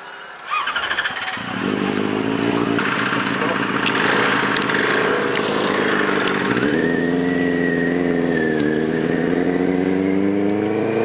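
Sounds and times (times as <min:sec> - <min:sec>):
motorcycle engine running: 0:00.7 - 0:11.0.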